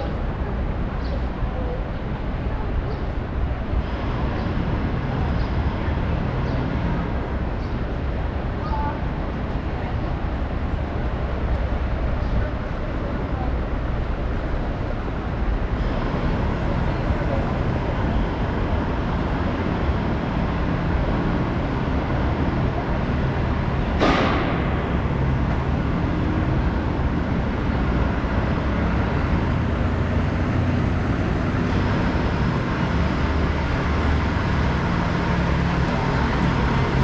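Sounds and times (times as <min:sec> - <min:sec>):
passing vehicles rumbling: 0:00.0 - 0:37.0.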